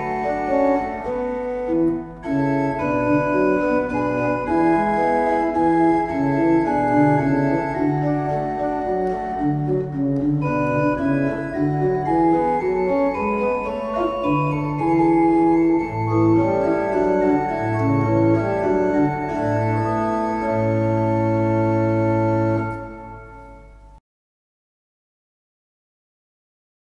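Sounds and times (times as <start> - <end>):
church pipe organ playing: 0.0 - 24.0.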